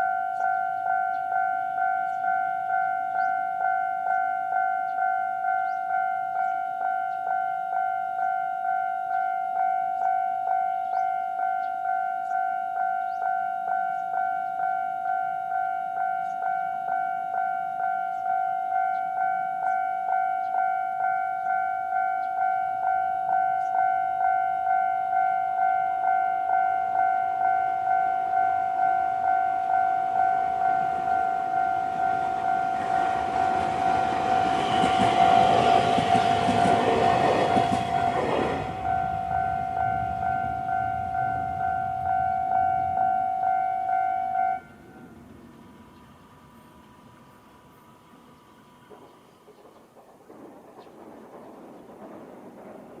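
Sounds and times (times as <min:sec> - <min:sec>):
level-crossing warning bell ringing: 0:00.0 - 0:49.2
train passing over crossing: 0:00.0 - 0:53.0.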